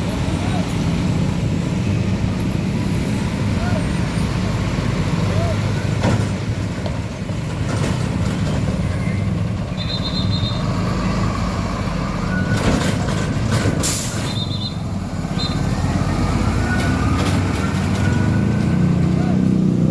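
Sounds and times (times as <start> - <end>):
diesel truck engine rumbling: 0.0 - 19.9.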